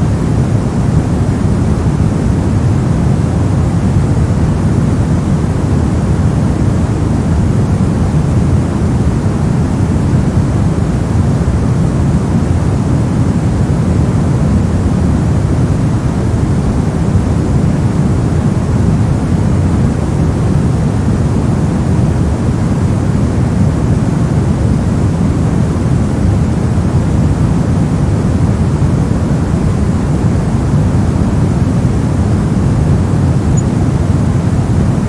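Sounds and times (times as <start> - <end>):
deep white noise: 0.0 - 35.0.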